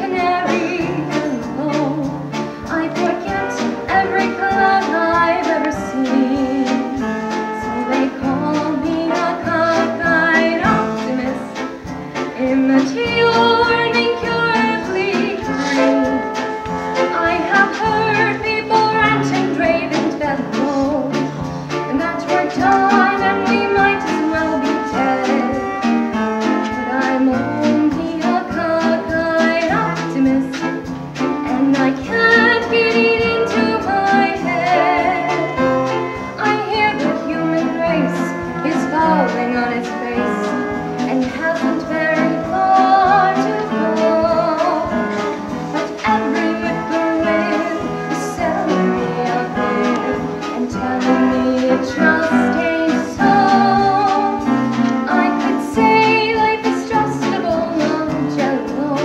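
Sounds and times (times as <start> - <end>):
instrumental accompaniment: 0.0 - 59.0
woman singing: 0.0 - 59.0.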